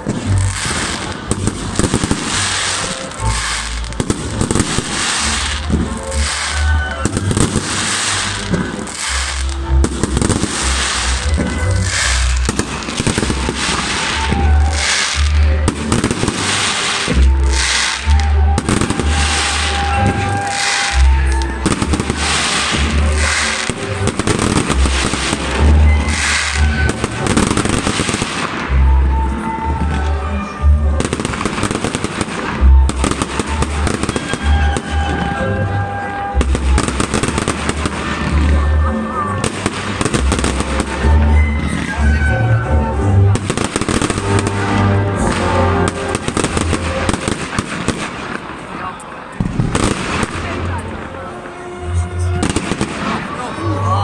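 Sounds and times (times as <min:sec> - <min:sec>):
loud music with deep bass: 0:00.0 - 0:47.4
fireworks bursting and crackling: 0:00.0 - 0:54.0.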